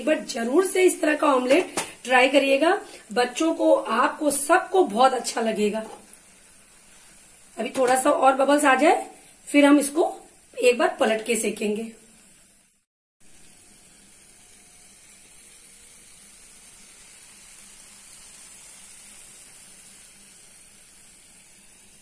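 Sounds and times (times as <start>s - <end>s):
batter sizzling in a pan: 0.0s - 22.0s.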